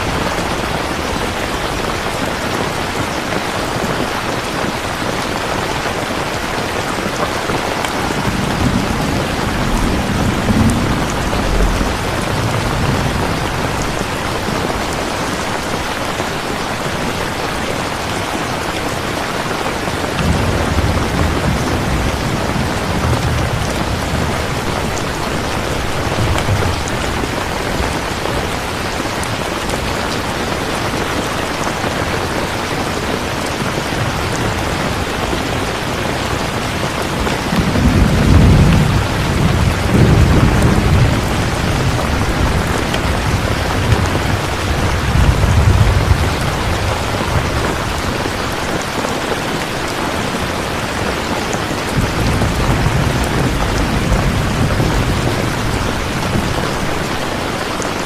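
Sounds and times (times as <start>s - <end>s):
thunder rumbling: 0.0s - 19.0s, 19.8s - 58.0s
steady rain: 0.0s - 58.0s.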